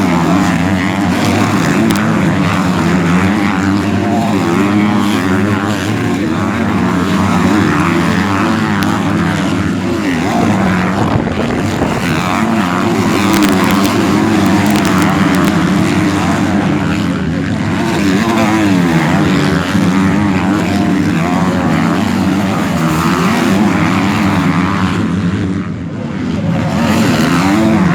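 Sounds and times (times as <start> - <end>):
motocross bikes revving: 0.0 - 27.9.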